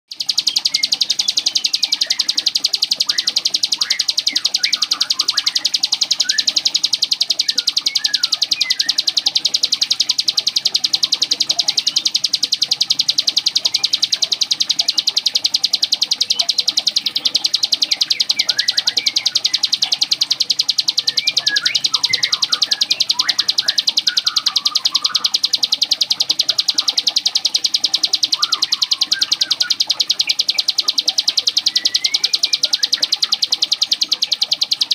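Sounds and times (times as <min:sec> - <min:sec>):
bird buzzing trill: 0:00.1 - 0:34.9
low bird chirps: 0:00.1 - 0:34.9.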